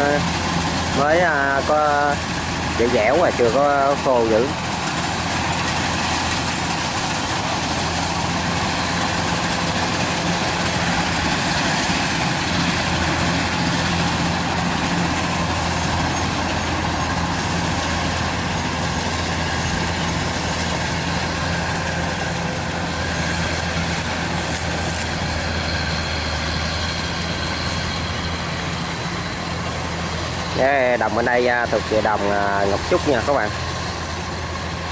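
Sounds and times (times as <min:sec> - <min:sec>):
combine threshing noise: 0:00.0 - 0:34.9
diesel engine drone: 0:00.0 - 0:34.9.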